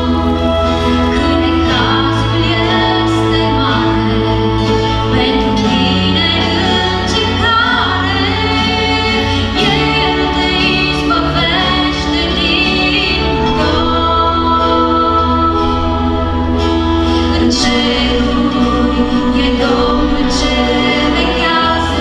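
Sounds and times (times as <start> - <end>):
band playing: 0.0 - 22.0
woman singing: 0.0 - 22.0.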